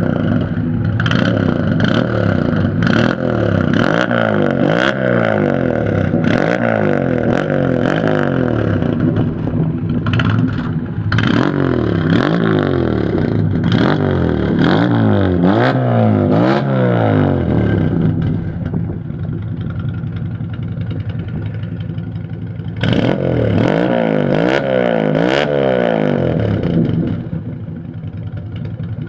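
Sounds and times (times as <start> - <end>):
car engine revving: 0.0 - 27.7
car engine idling: 0.0 - 29.0.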